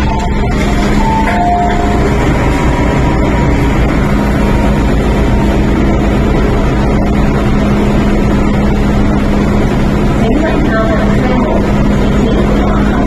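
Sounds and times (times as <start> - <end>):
station ventilation noise: 0.0 - 13.0
train equipment humming: 0.0 - 13.0.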